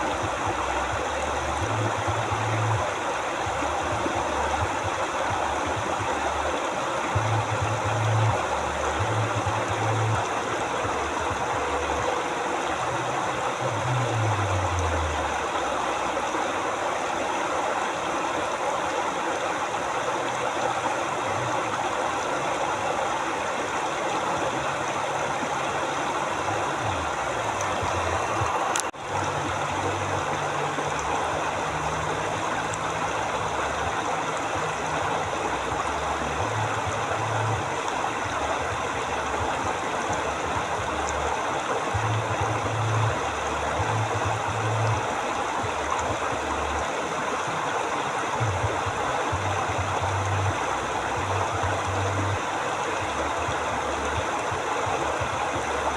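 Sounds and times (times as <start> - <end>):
low shifting hum: 0.0 - 18.7, 19.3 - 55.9
river rushing: 0.0 - 55.9.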